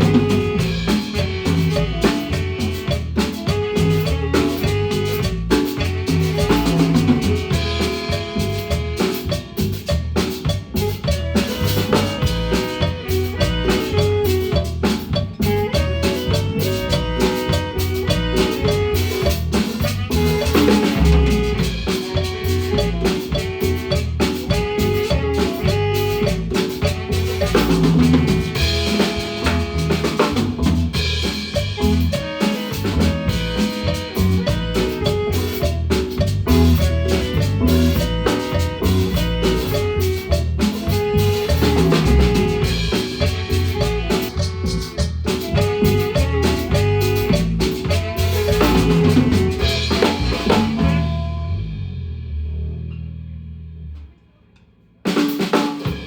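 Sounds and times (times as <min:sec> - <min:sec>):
snare and cymbal hits: 0:00.0 - 0:51.2, 0:55.1 - 0:56.0
marimba notes: 0:00.0 - 0:51.8.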